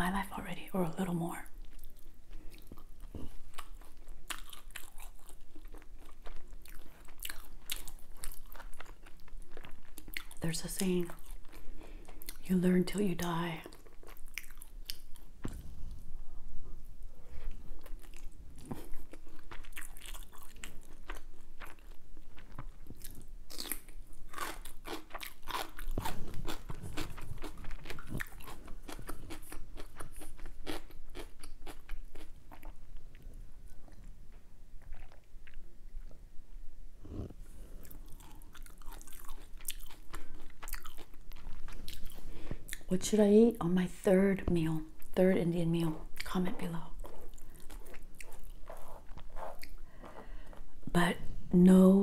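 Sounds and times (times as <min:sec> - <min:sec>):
person chewing crunchy food: 0:01.6 - 0:12.4, 0:13.6 - 0:16.1, 0:17.2 - 0:36.2, 0:37.0 - 0:42.9, 0:46.9 - 0:50.8.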